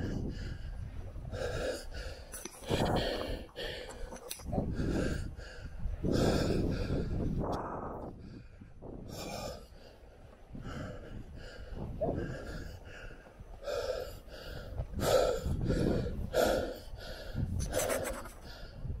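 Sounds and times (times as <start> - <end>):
heavy panting breaths: 0.0 - 7.4, 8.2 - 19.0.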